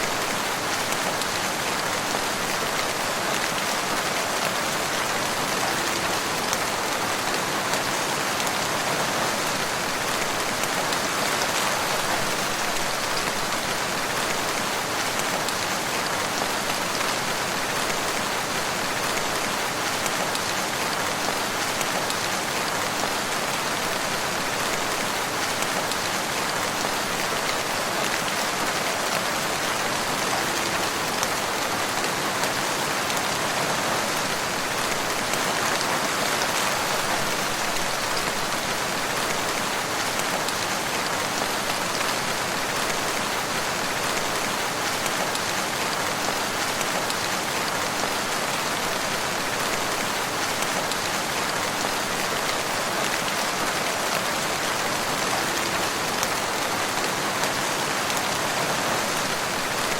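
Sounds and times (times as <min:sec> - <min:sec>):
rain falling in a wood: 0:00.0 - 0:59.9.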